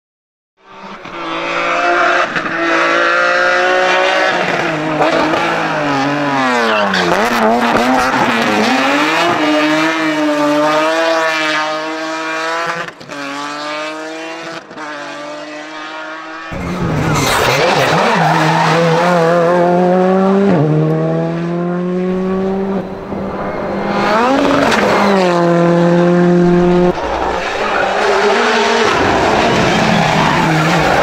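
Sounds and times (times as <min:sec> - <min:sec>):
rally car engine revving: 0:00.6 - 0:31.0.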